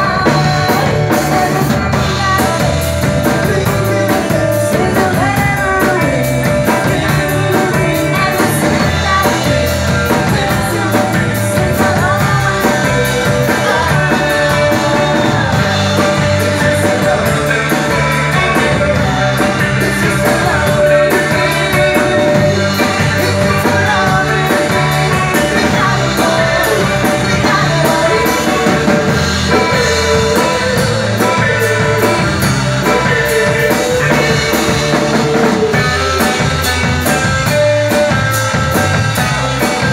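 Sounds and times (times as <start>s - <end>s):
woman singing: 0.0s - 36.6s
drum kit: 0.0s - 39.9s
electric guitar: 0.0s - 39.9s.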